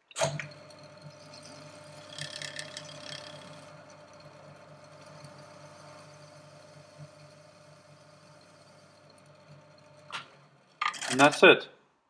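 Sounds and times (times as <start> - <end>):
lathe motor humming: 0.2 - 11.4.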